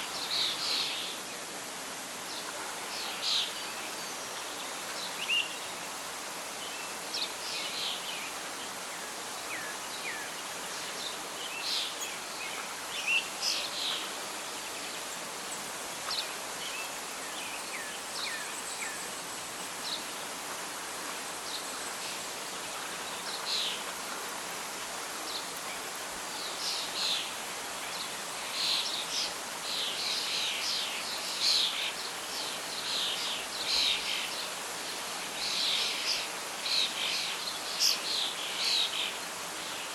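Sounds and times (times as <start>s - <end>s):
songbirds chirping: 0.0s - 39.9s
wind and rustling leaves: 0.0s - 39.9s.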